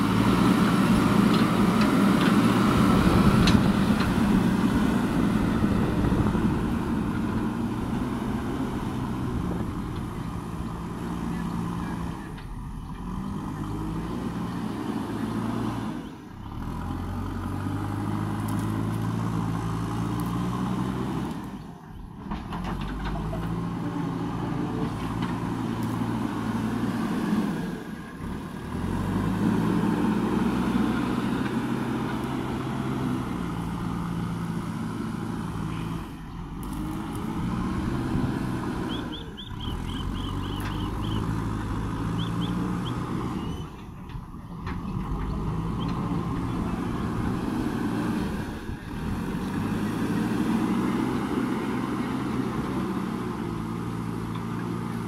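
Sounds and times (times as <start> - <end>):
backhoe diesel engine working: 0.0 - 55.0.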